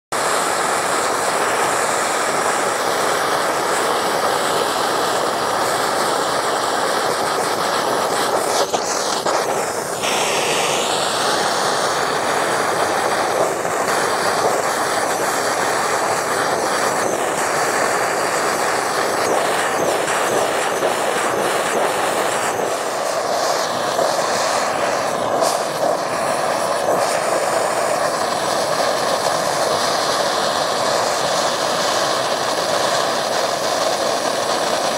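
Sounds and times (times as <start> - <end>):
gas torch roaring: 0.1 - 34.9.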